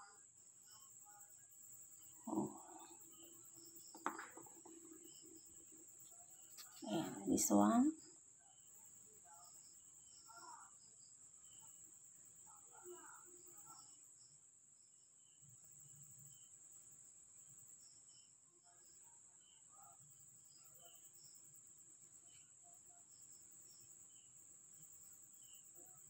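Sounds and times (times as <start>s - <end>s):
cricket chirps: 0.0s - 26.0s
crickets trilling: 0.0s - 26.0s.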